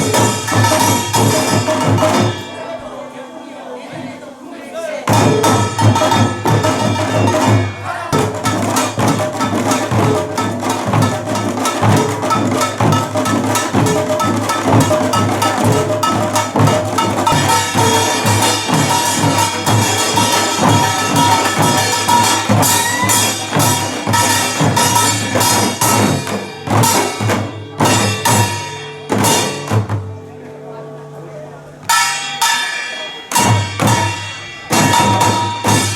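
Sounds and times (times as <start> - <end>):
drum strokes: 0.0 - 3.0, 5.0 - 30.5, 31.8 - 35.9
small gongs clanging: 0.0 - 4.2, 5.1 - 35.9.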